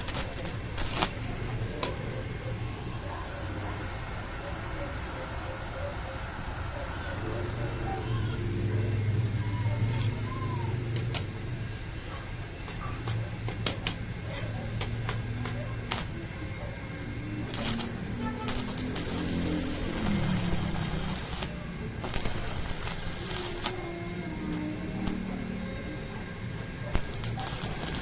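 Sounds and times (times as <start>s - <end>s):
welding arc crackling and hissing: 0.0s - 8.7s, 9.9s - 25.6s, 26.8s - 28.0s.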